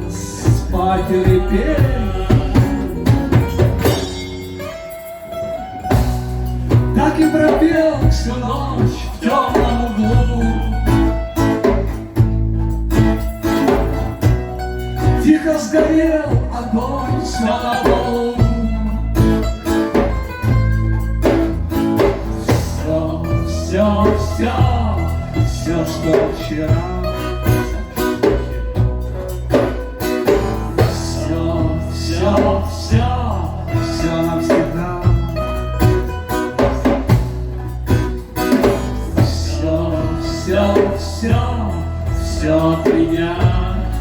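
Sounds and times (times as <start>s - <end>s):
guitar chords: 0.0s - 44.0s
low bass notes: 0.0s - 44.0s.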